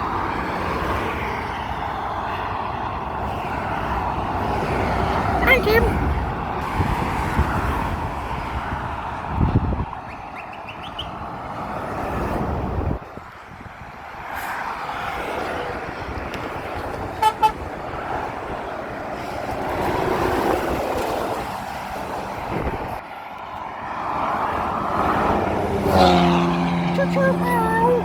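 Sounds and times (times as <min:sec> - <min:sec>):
vehicles passing on road: 0:00.0 - 0:28.0.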